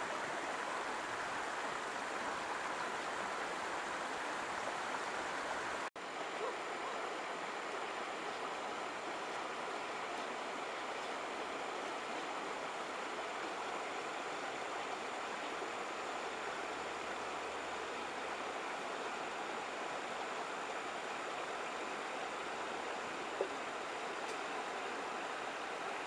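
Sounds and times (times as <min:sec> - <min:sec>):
river water running over stones: 0:00.0 - 0:26.0.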